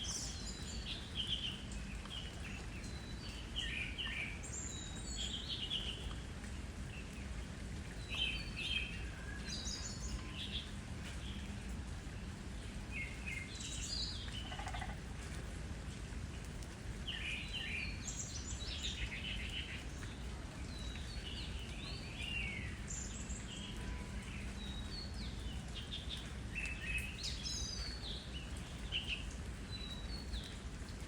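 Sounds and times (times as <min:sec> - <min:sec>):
low background noise: 0:00.0 - 0:31.0.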